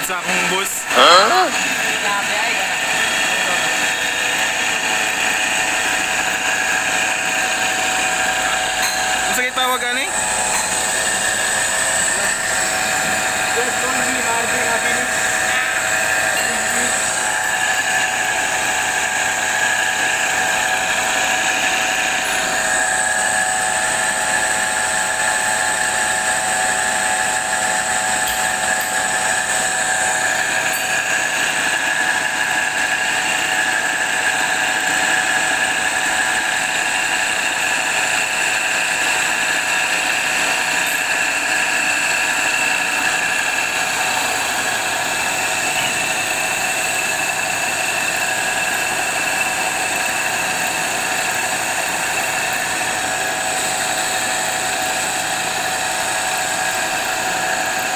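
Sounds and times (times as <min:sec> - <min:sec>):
grinder grinding steel blade: 0:00.8 - 0:57.9.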